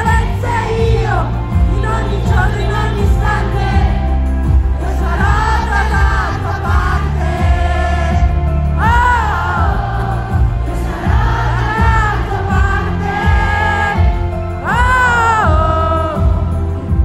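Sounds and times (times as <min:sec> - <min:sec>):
live pop concert music: 0:00.0 - 0:17.0
person singing: 0:00.0 - 0:17.0.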